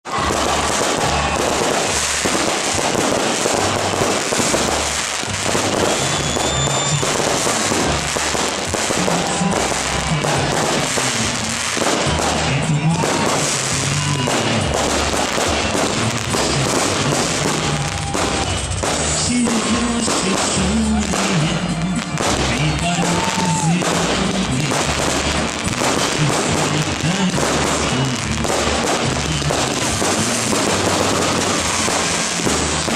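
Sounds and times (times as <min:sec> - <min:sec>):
fireworks crackling and popping: 0:00.0 - 0:32.9
music playing: 0:00.0 - 0:32.9.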